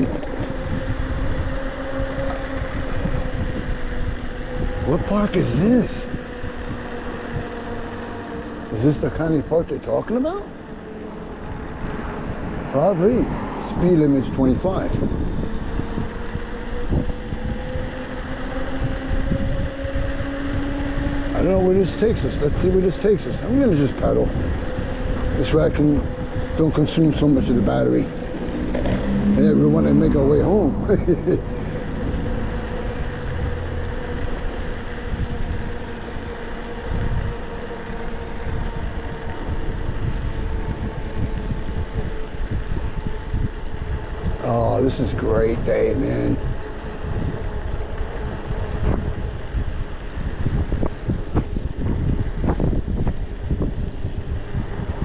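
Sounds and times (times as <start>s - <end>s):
electric motor whine: 0.0s - 55.0s
wind buffeting microphone: 0.0s - 55.0s.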